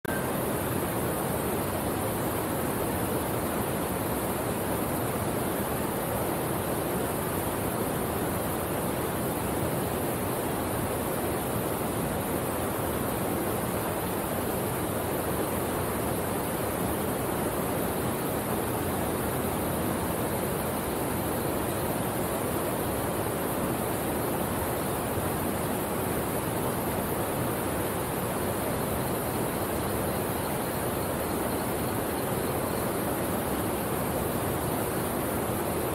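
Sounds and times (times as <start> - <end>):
waterfall rushing over rocks: 0.1 - 35.9.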